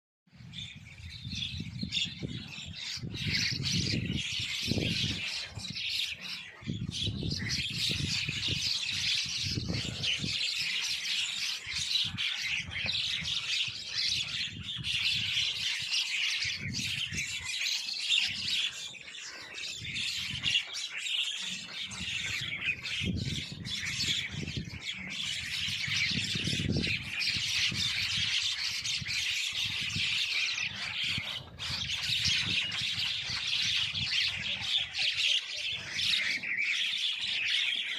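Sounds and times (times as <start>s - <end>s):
birds chirping and squawking: 0.3s - 37.9s.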